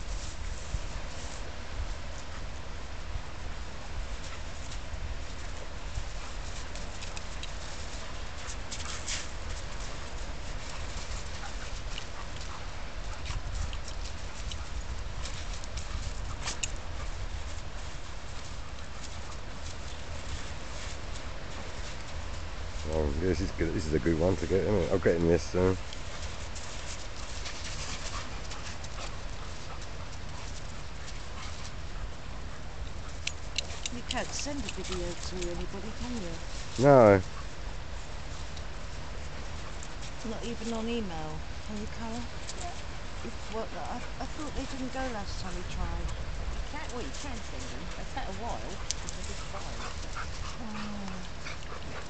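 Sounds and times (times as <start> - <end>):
dogs scuffling paws: 0.0 - 52.0
steady low rumble: 0.0 - 52.0.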